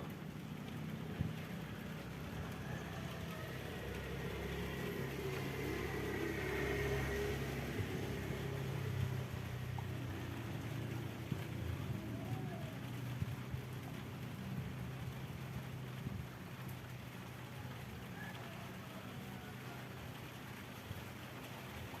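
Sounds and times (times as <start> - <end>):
distant vehicle engine running: 0.0 - 18.5.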